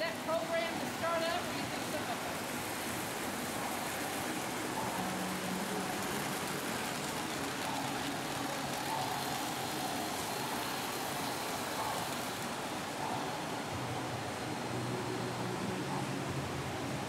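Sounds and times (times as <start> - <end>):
indoor atrium hiss: 0.0 - 17.0.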